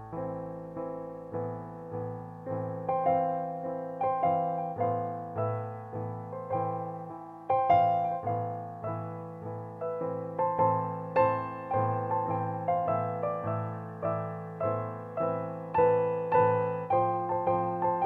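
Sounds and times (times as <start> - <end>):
piano chords: 0.0 - 18.0.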